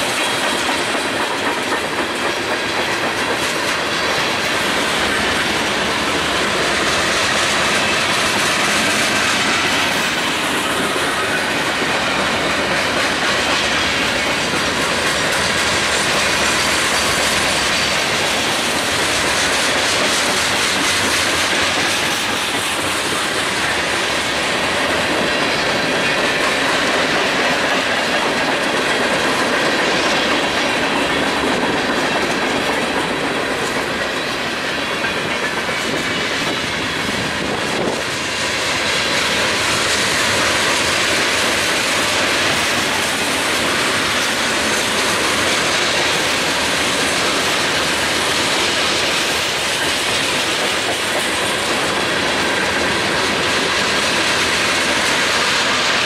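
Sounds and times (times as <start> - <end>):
freight train wheels rumbling: 0.0 - 56.0
wheels clicking over rail joints: 0.0 - 56.0.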